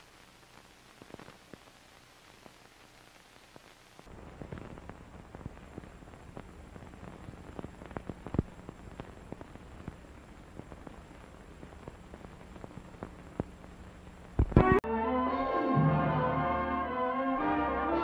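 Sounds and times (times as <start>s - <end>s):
record crackle and clicks: 0.0s - 14.9s
low hum and hiss: 0.0s - 18.0s.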